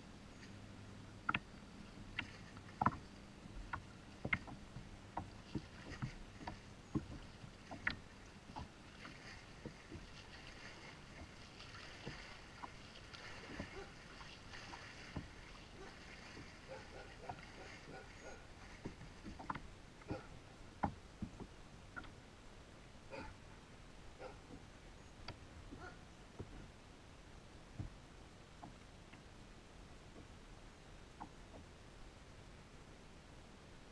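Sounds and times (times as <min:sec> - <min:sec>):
knocks and clicks in a kayak: 0:00.3 - 0:22.3, 0:24.1 - 0:26.8, 0:27.5 - 0:32.0.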